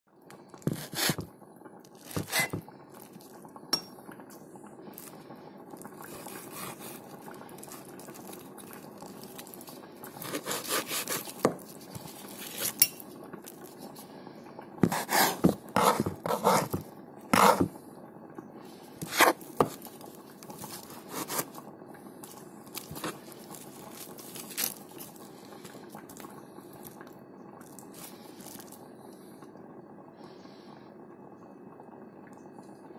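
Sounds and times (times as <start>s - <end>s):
low background hum: 0.1s - 32.9s.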